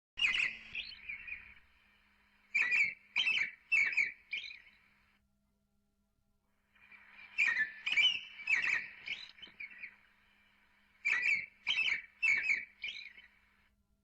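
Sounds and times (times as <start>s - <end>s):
songbird chirping: 0.2s - 5.2s, 6.8s - 13.7s.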